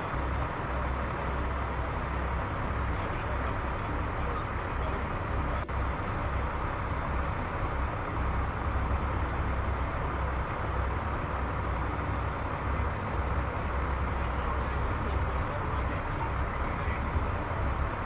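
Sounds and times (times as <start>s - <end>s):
heavy diesel vehicles idling: 0.0s - 18.0s.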